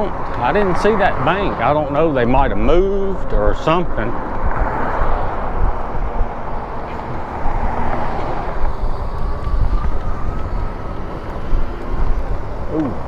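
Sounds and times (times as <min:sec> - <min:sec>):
car traffic passing: 0:00.0 - 0:13.0
wind rumbling on microphone: 0:00.0 - 0:13.0.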